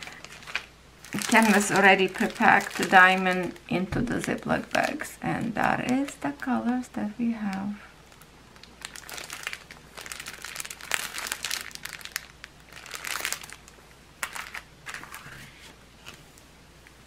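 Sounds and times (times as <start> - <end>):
plastic packaging crinkling: 0.0 - 6.8, 8.0 - 16.2.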